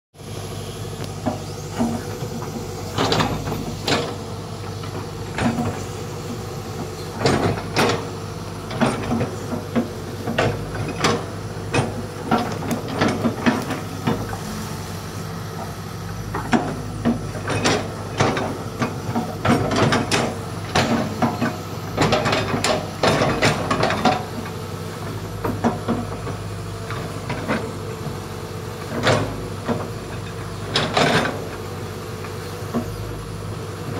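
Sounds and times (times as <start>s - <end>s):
excavator engine hum: 0.2s - 33.9s.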